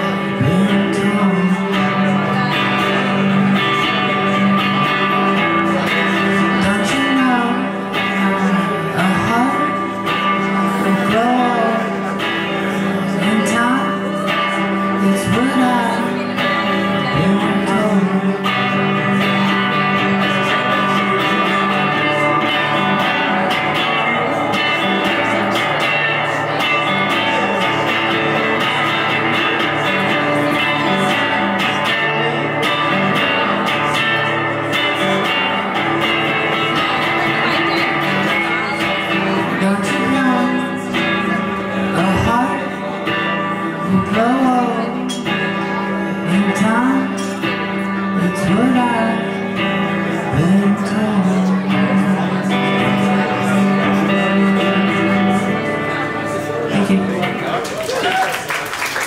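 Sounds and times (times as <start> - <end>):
electric guitar through amplifier: 0.0 - 59.0.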